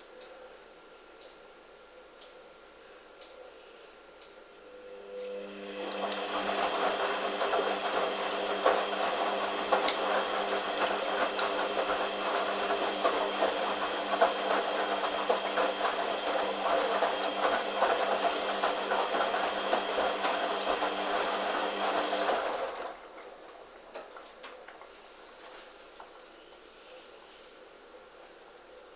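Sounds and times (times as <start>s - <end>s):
washing machine mains hum: 0.0s - 28.9s.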